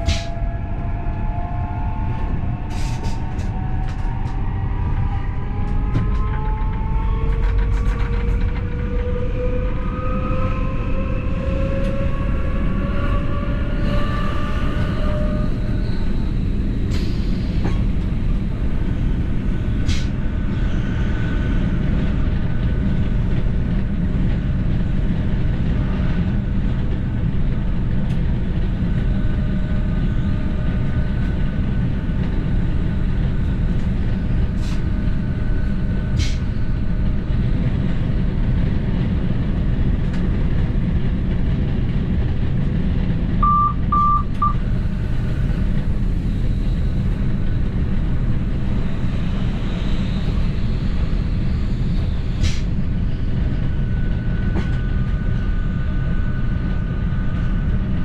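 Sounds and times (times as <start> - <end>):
wheels rumbling on rails: 0.0 - 58.0.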